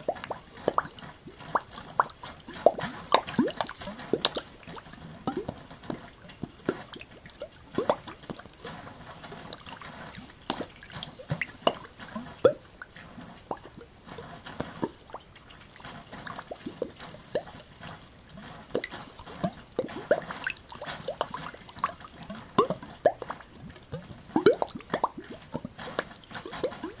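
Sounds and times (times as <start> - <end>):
faint water hiss: 0.0 - 27.0
water plops and drips: 0.0 - 27.0.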